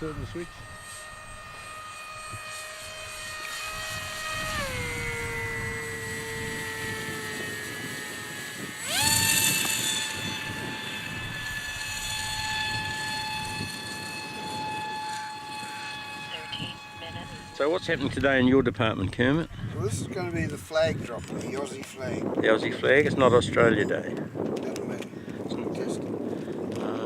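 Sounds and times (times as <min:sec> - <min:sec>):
model plane motor whining: 0:00.0 - 0:19.6, 0:20.2 - 0:27.0.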